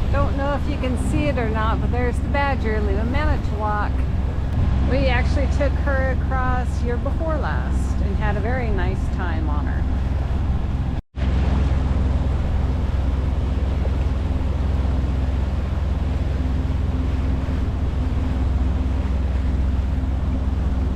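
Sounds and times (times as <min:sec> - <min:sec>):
diesel engine humming: 0:00.0 - 0:20.9
water noise: 0:00.0 - 0:20.9
wind: 0:00.0 - 0:20.9.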